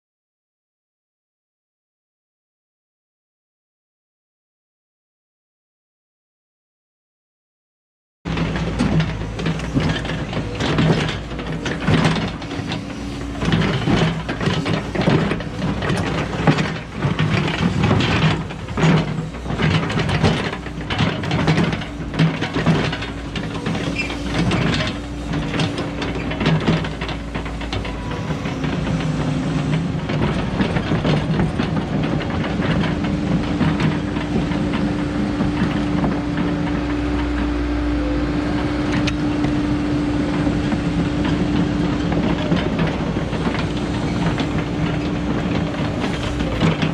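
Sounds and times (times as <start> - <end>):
excavator diesel engine: 8.3 - 46.9
excavator knocks and clatter: 8.3 - 46.9.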